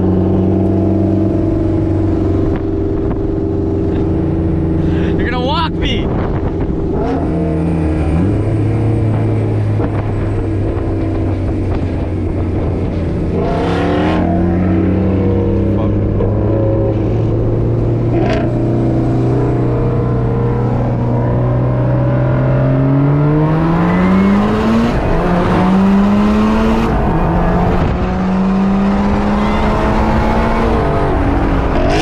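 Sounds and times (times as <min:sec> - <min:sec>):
car engine revving through gears: 0:06.2 - 0:32.0.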